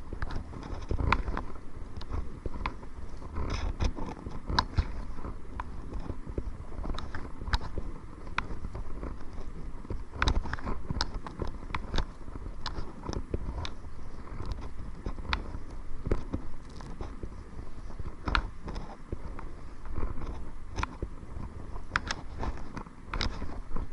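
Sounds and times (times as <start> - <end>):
low wind rumble on microphone: 0.0 - 23.9.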